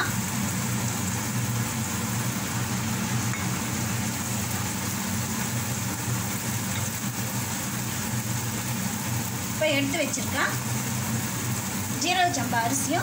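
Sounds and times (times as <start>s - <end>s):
appliance humming with hiss: 0.0s - 13.0s.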